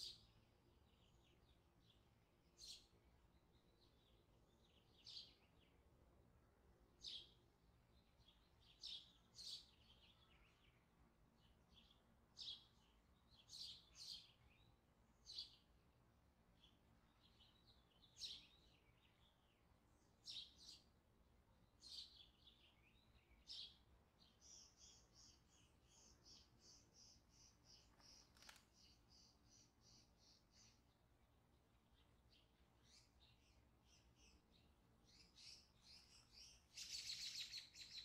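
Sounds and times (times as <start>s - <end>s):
faint bird chirping: 0.0s - 38.0s.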